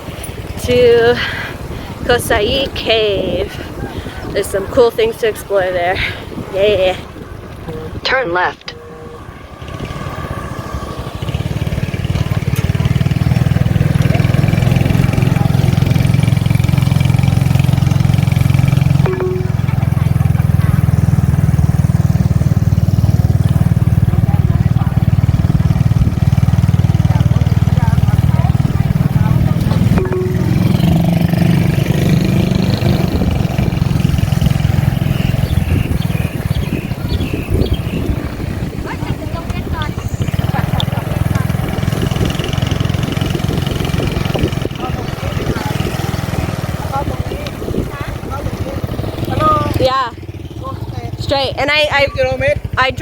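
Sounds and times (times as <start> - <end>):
motorbike engine running: 0.0 - 53.0.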